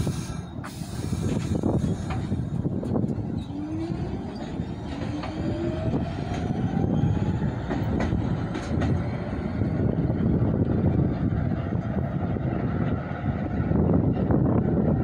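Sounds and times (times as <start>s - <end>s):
subway train motor whine: 0.0s - 15.0s
train rumble: 0.0s - 15.0s
wheels clicking on track: 1.2s - 13.2s.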